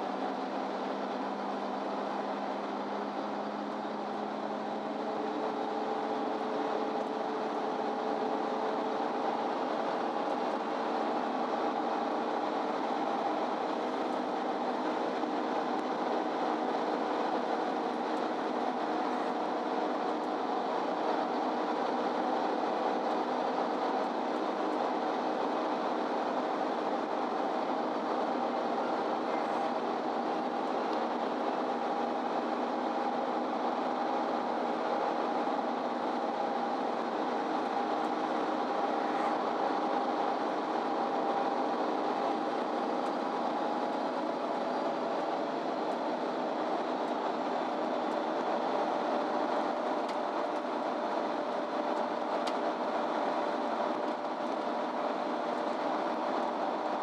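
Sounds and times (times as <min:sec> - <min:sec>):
bus engine and rolling hum: 0:00.0 - 0:57.0
constant whine: 0:00.0 - 0:57.0.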